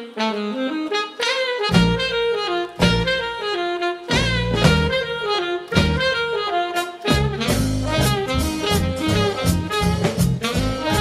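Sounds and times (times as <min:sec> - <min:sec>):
saxophone phrase: 0:00.0 - 0:11.0
swing jazz band: 0:00.2 - 0:11.0.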